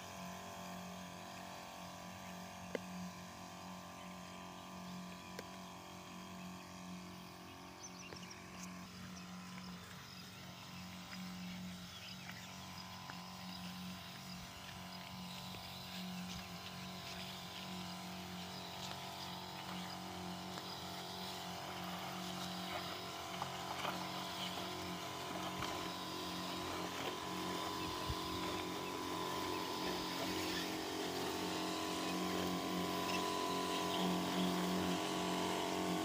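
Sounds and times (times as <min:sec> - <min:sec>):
sprayer pump motor humming: 0:00.0 - 0:36.0.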